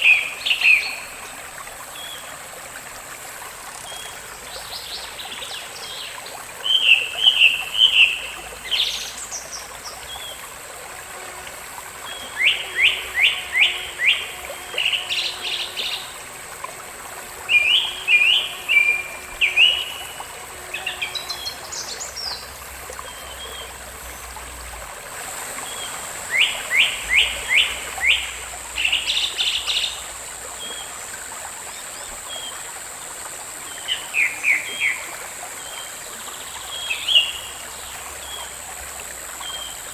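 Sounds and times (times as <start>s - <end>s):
small stream rushing: 0.0s - 39.9s.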